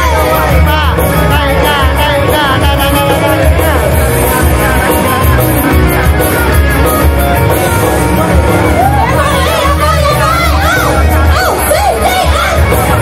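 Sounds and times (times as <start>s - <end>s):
pop song over loudspeakers: 0.0s - 13.0s.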